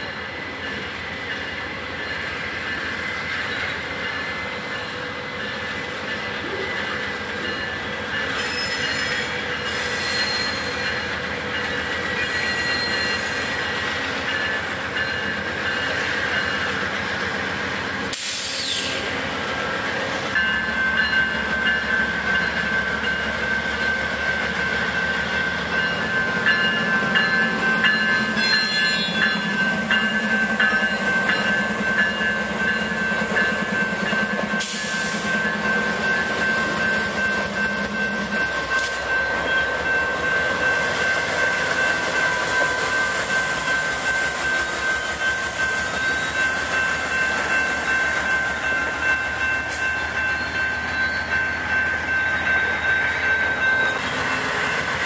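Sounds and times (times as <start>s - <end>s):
train wheels squealing: 0.0s - 16.9s, 18.1s - 19.2s, 20.4s - 55.0s.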